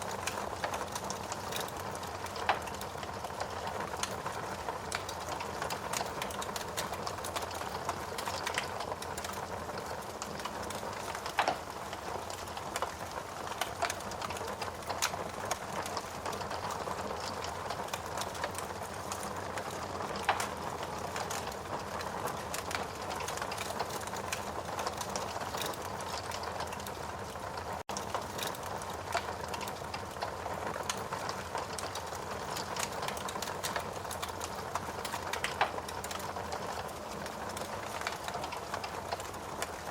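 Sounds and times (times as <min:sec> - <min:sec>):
logs burning in fireplace: 0:00.0 - 0:39.9.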